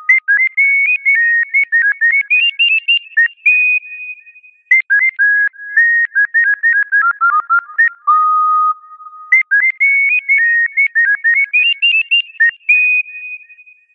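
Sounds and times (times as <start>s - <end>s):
whistle-like chirping tune: 0.0s - 13.9s.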